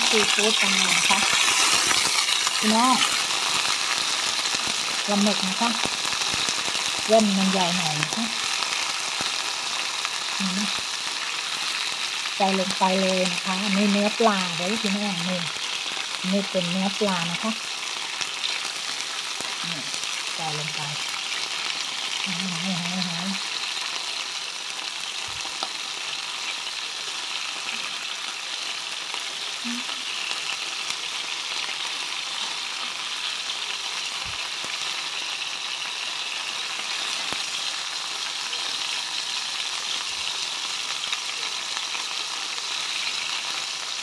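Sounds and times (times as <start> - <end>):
seafood sizzling in hot oil: 0.0 - 44.0.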